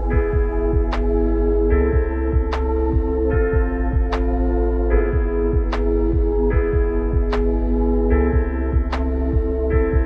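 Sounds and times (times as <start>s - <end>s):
low electronic beat: 0.0s - 10.0s
synthesizer chords: 0.0s - 10.0s.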